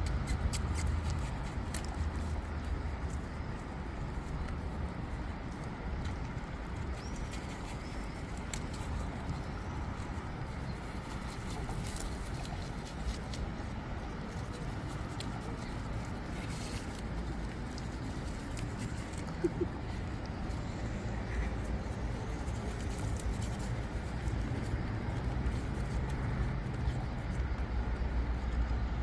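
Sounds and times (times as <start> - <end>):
soft clicks and rustles: 0.0 - 29.0
steady low rumble: 0.0 - 29.0.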